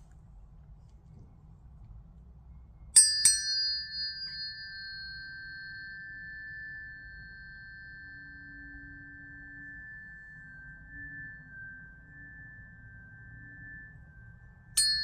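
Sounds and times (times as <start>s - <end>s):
tuning forks ringing tone: 2.3s - 15.0s.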